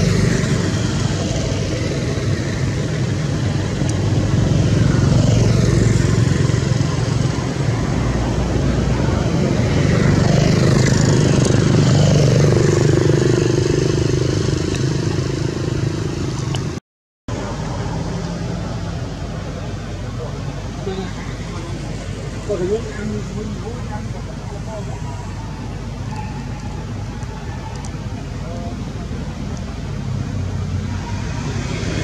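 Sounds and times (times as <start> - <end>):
vehicle engines humming: 0.0 - 32.0.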